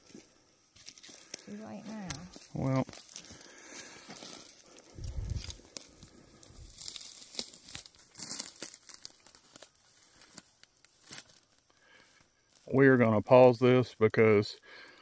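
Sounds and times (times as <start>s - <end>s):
footsteps through dry brush: 0.0s - 12.8s.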